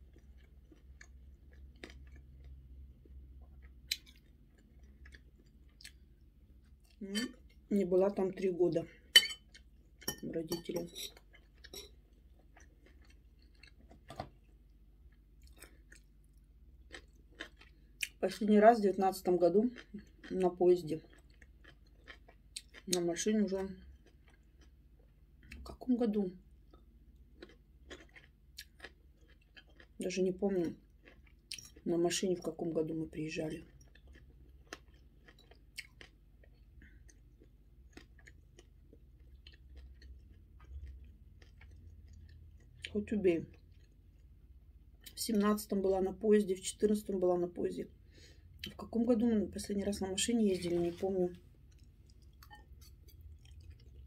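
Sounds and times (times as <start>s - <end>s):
chewing crunchy food: 0.0s - 7.7s, 9.1s - 18.4s, 19.2s - 25.8s, 26.4s - 45.2s, 48.4s - 54.0s.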